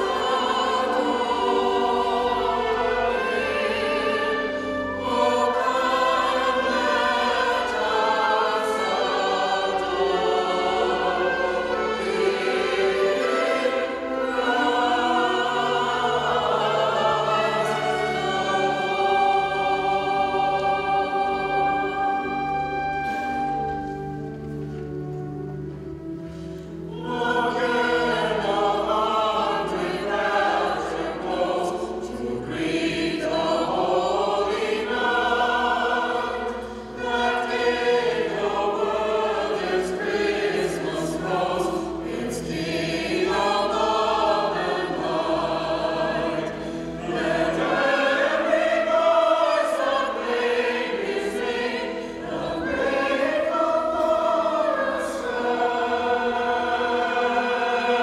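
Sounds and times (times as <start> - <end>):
mixed choir singing: 0.0 - 24.2, 26.7 - 58.0
low held accompaniment notes: 0.0 - 58.0.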